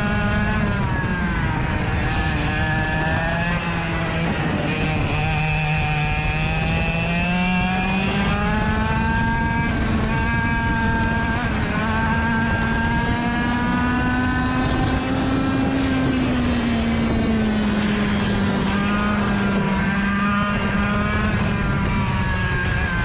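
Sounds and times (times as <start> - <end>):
kart engine at high revs: 0.0 - 23.0.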